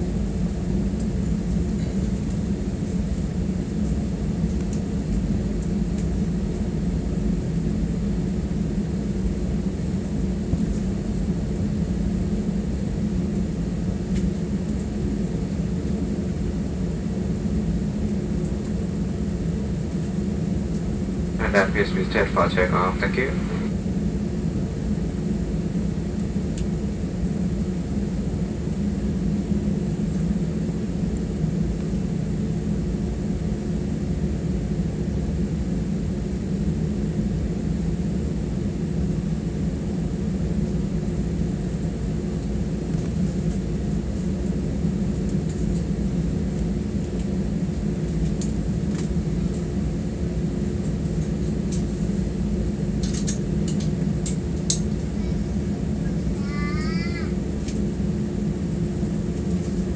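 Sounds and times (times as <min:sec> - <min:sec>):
airliner engine drone in cabin: 0:00.0 - 0:59.9.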